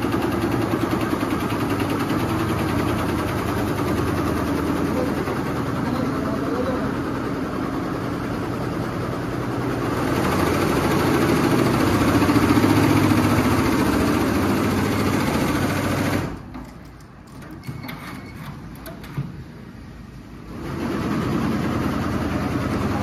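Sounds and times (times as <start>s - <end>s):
embroidery machine clatter: 0.0s - 19.6s.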